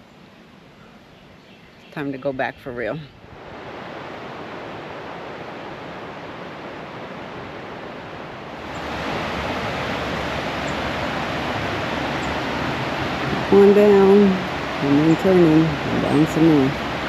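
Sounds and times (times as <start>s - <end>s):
waterfall rushing: 3.3s - 17.0s.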